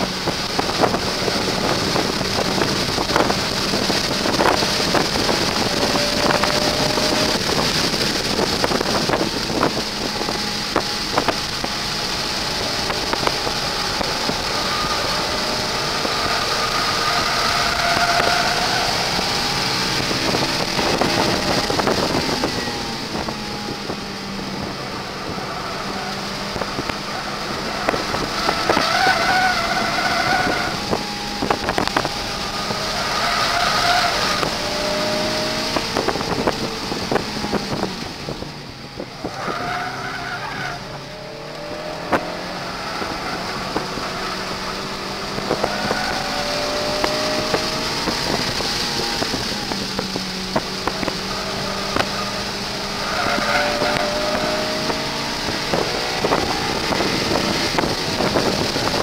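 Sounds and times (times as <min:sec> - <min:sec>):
car engine revving: 0:00.0 - 0:59.0
tires squealing: 0:00.0 - 0:59.0.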